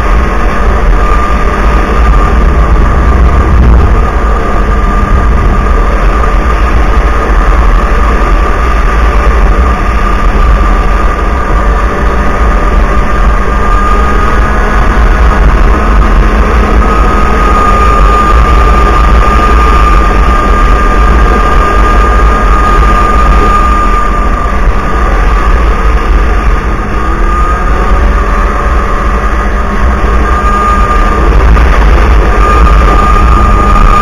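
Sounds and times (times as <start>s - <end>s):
snowmobile engine running: 0.0s - 34.0s.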